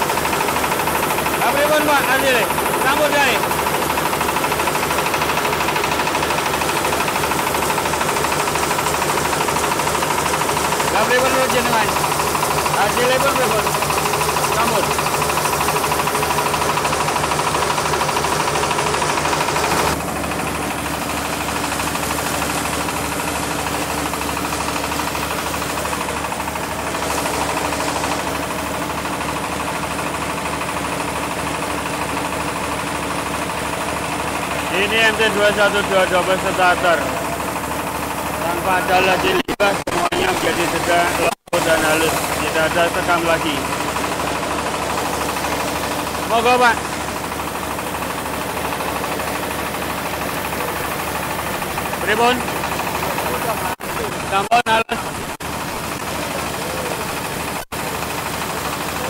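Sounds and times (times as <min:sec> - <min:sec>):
diesel engine pulsing: 0:00.0 - 0:59.0
rice mill whine: 0:00.0 - 0:59.0.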